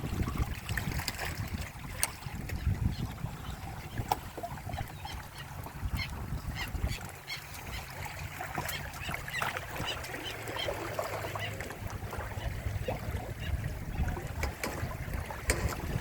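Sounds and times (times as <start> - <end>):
low rumble of wind and water: 0.0 - 16.0
water slapping against hulls: 0.0 - 16.0.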